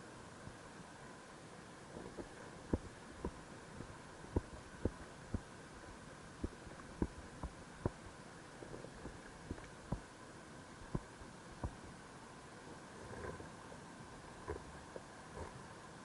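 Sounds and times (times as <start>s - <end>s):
low hiss and hum: 0.0s - 16.0s.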